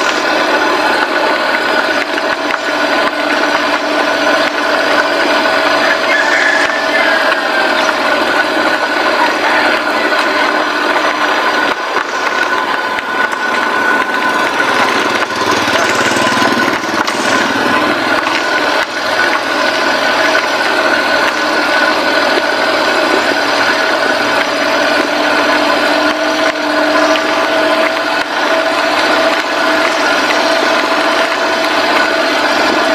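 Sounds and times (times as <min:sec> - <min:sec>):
truck engine hum and whine: 0:00.0 - 0:32.9.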